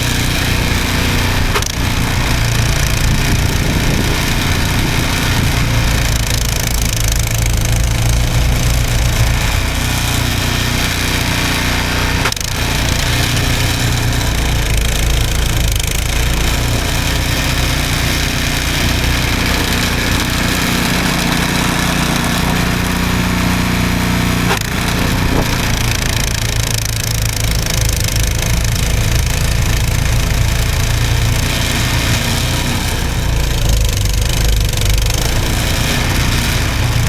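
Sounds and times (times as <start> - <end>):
small gas engine running: 0.0 - 37.0.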